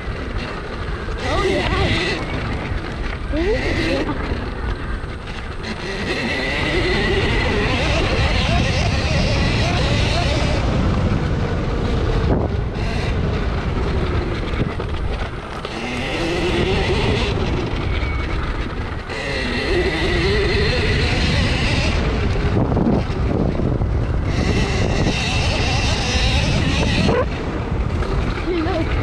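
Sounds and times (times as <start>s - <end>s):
bike rumbling on rough grass: 0.0s - 29.0s
wind on microphone: 0.0s - 29.0s
electric motor whining: 1.0s - 28.0s.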